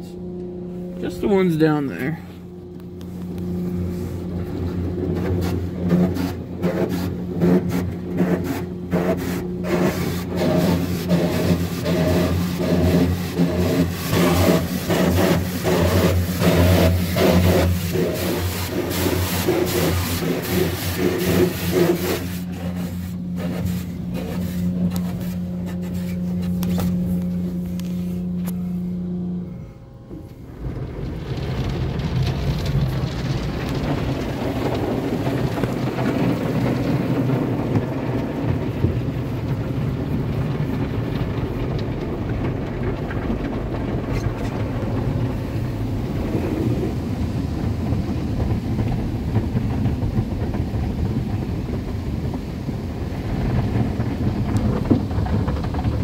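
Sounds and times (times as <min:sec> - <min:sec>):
car wash motor hum: 0:00.0 - 0:56.0
water spray rushing on car: 0:03.2 - 0:28.4, 0:31.0 - 0:56.0.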